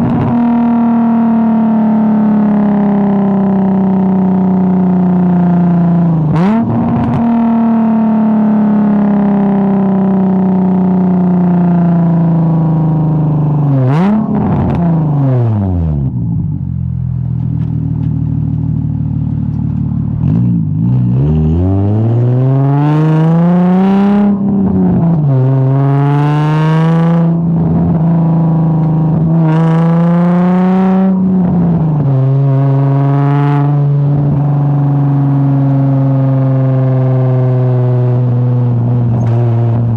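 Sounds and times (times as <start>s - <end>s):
loud car exhaust revving: 0.0s - 3.3s, 3.9s - 17.1s, 18.0s - 39.9s.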